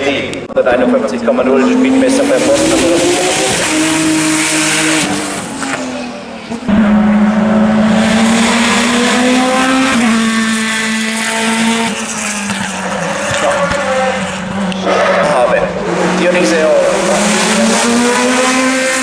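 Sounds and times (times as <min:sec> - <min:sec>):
race car engine at full throttle: 0:00.0 - 0:19.0.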